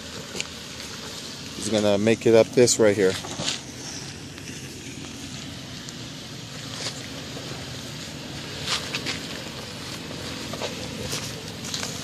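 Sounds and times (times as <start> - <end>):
car engine running low: 0.0 - 12.0
tyres crunching over rock: 0.1 - 7.6, 8.4 - 12.0.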